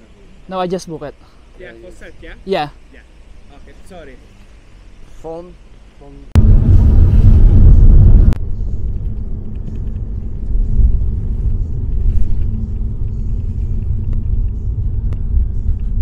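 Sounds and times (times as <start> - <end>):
road and tyre noise in car: 0.0 - 16.0.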